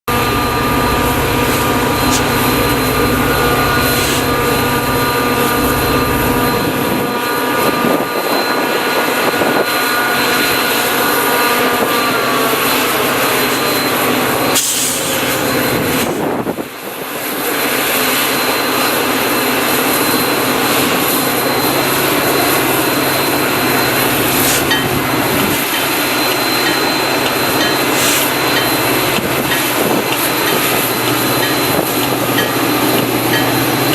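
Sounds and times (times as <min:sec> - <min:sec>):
diesel locomotive engine rumble: 0:00.0 - 0:33.9
turbocharger whine: 0:00.1 - 0:33.9.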